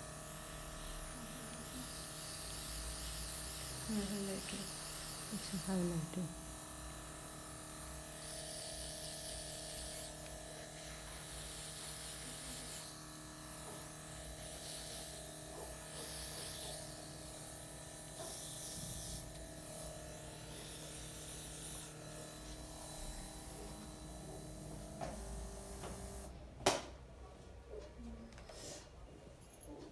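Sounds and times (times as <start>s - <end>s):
airbrush spray hissing: 0.0s - 6.4s, 7.0s - 26.3s
compressor motor humming: 0.0s - 26.4s.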